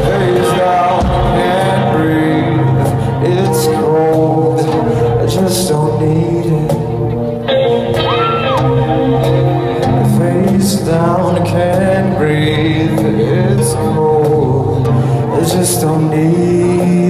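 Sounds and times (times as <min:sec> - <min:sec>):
live synth-pop band: 0:00.0 - 0:17.0.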